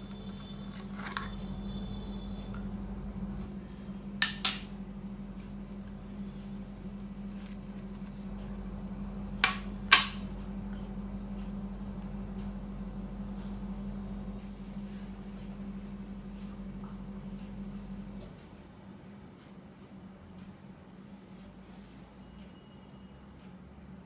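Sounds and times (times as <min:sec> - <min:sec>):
steady low hum: 0:00.0 - 0:22.2.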